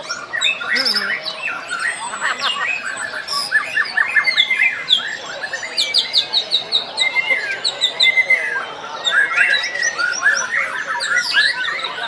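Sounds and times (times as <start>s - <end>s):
songbirds whistling and trilling: 0.0s - 12.0s.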